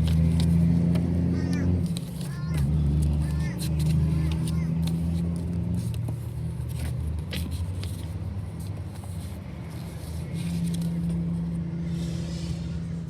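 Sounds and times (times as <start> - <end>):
pages rustling and clicking: 0.0 - 1.1, 1.8 - 11.5
car engine idling hum: 0.0 - 13.0.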